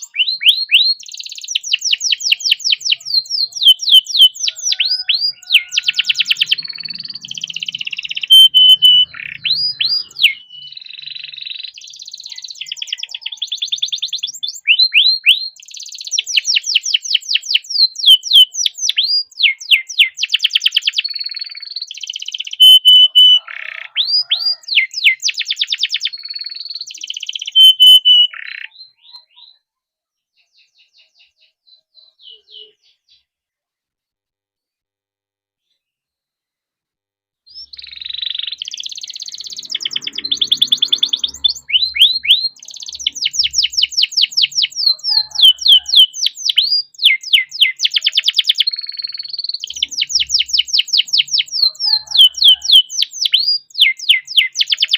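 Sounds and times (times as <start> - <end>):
canary singing trills: 0.0 - 33.3, 37.5 - 54.9.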